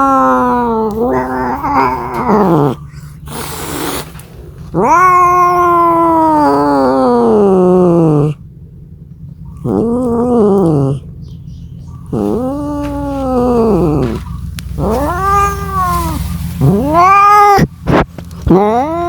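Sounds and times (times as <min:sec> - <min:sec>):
cat yowling: 0:00.0 - 0:04.1, 0:04.7 - 0:08.4, 0:09.6 - 0:11.1, 0:12.1 - 0:19.0.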